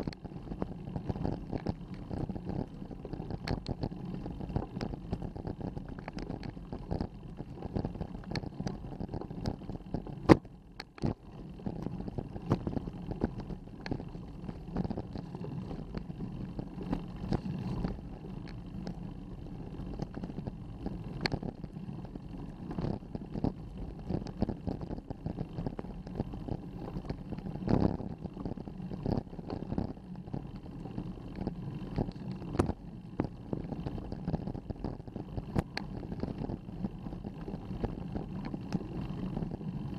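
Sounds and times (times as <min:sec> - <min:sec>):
bicycle clicks and rattles: 0:00.0 - 0:39.9
bicycle tyres rumbling: 0:00.0 - 0:39.9.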